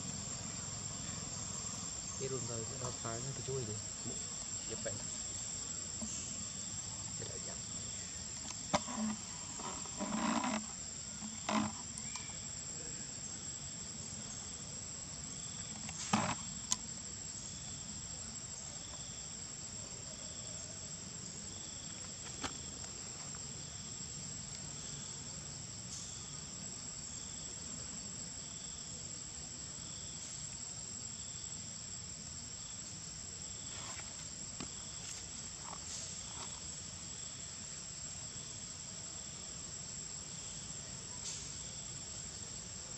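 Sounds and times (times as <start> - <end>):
insects whining: 0.0 - 42.9
pulsing insect chirp: 0.0 - 42.9.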